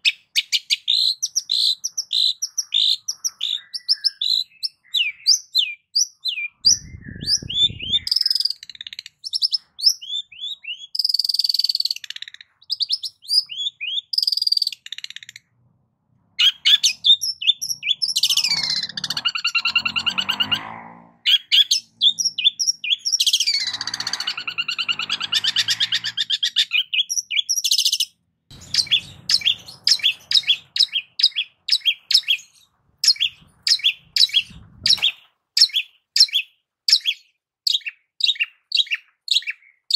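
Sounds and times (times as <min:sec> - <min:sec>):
bird singing chirps and trills: 0:00.0 - 0:15.5, 0:16.4 - 0:20.7, 0:21.3 - 0:39.9.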